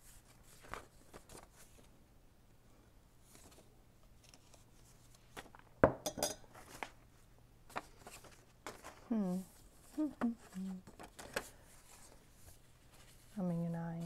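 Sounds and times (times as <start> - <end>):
paper envelopes handled: 0.0 - 1.9, 3.2 - 5.7, 6.5 - 14.0.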